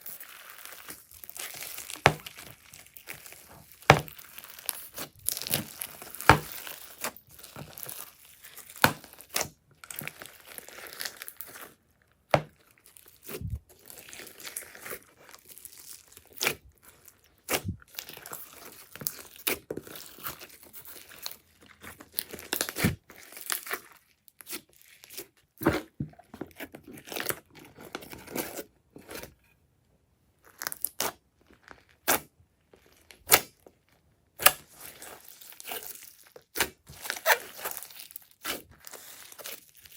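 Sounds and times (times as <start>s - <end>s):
slime squished by hand: 0.0s - 11.7s, 12.3s - 27.6s, 34.4s - 39.9s.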